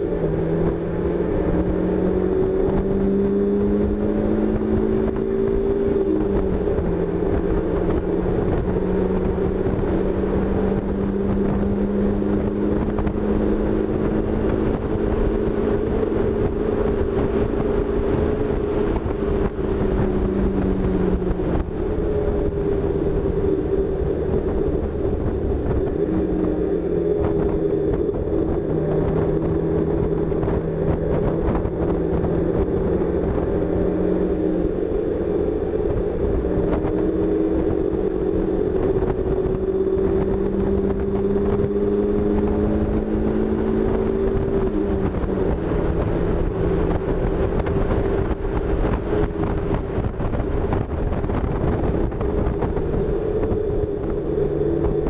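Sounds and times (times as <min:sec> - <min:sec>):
car engine revving high: 0:00.0 - 0:55.0
wind noise: 0:00.0 - 0:55.0.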